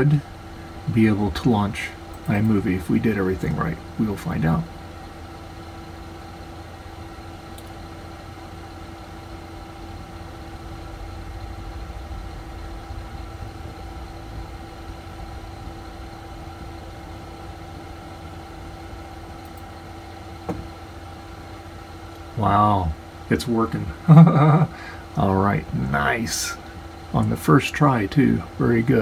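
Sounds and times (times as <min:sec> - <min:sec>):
computer machine hum: 0:00.0 - 0:29.0.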